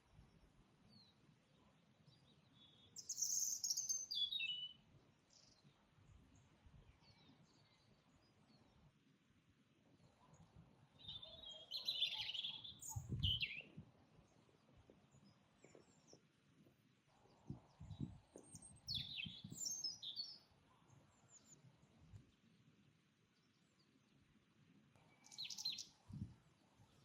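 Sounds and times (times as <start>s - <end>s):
birds chirping and twittering: 0.3s - 8.8s, 10.0s - 16.4s, 17.0s - 22.6s, 25.0s - 27.0s.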